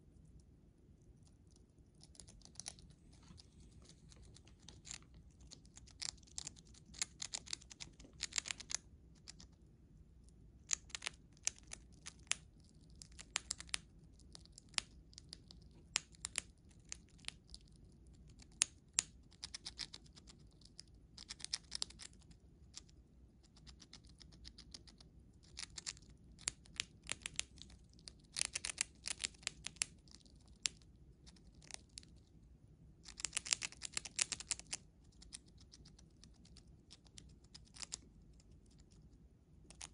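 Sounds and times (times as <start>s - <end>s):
chipmunk gnawing and crunching: 0.0s - 39.9s.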